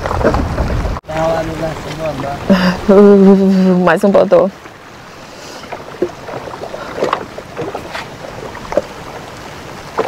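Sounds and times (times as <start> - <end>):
knocks and clatter in canoe: 0.0 - 3.3, 4.2 - 10.0
wind and rain hiss: 0.0 - 10.0.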